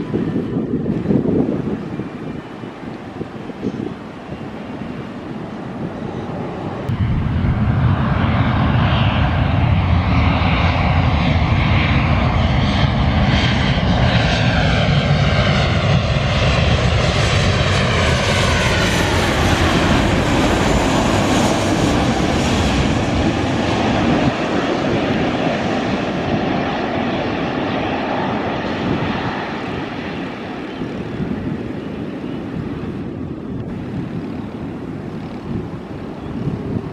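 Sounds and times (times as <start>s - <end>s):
airliner engines passing: 0.0s - 36.9s.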